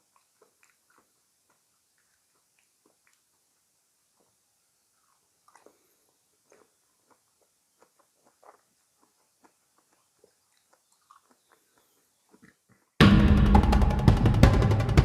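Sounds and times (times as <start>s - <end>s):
chewing fresh fruit: 0.0s - 13.0s.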